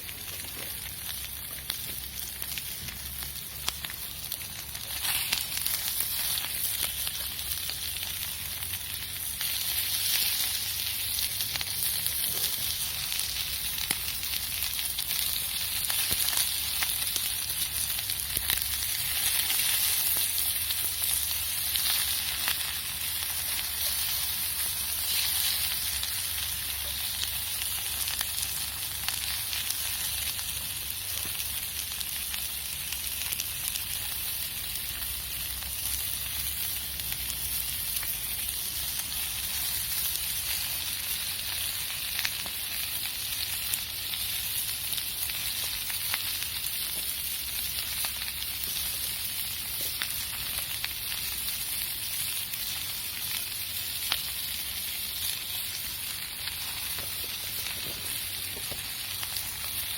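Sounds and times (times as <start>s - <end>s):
campfire cooking sizzle: 0.0s - 59.9s
fire crackles and pops: 0.0s - 59.9s.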